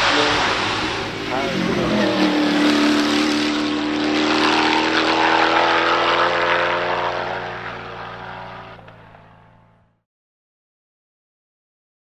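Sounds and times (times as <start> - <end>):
race car engine passing by: 0.0 - 9.8.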